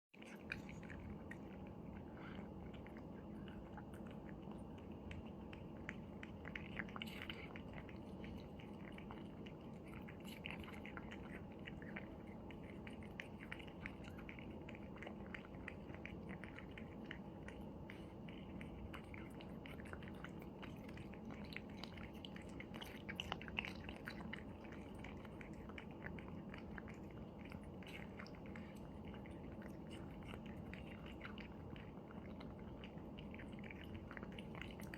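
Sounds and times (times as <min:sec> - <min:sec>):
low background hum: 0:00.1 - 0:34.9
cats chewing and crunching: 0:00.2 - 0:34.9.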